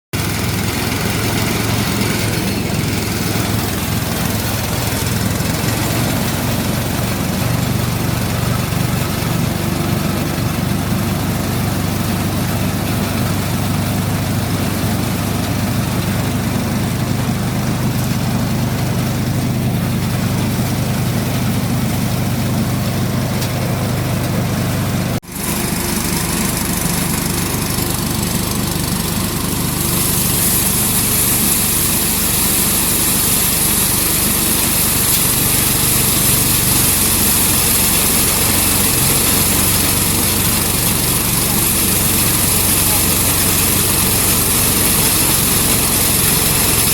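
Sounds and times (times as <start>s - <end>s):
thresher engine running: 0.1s - 46.9s.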